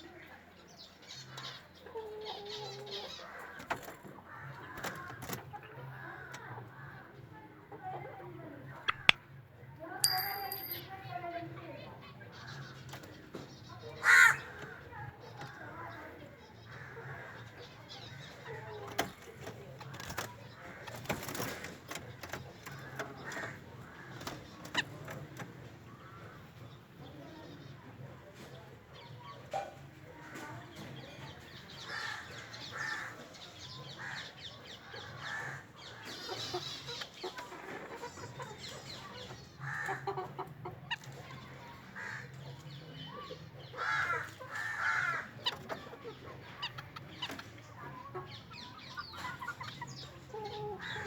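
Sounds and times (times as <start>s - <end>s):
birds clucking and chirping: 0.0s - 10.8s, 11.6s - 51.0s.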